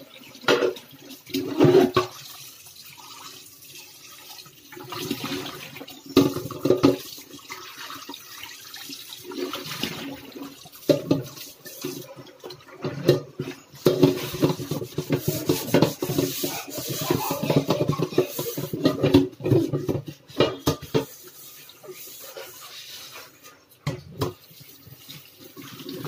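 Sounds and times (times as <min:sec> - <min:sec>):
pot being scrubbed: 0:00.0 - 0:26.0
tap water splashing: 0:00.4 - 0:02.3, 0:04.8 - 0:26.0.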